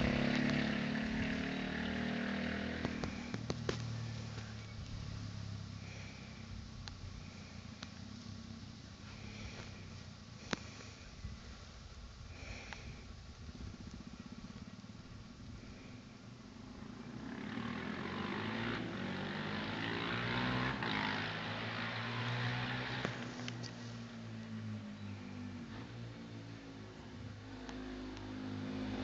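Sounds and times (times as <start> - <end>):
motorcycle engine passing: 0.0 - 11.1, 12.4 - 29.0.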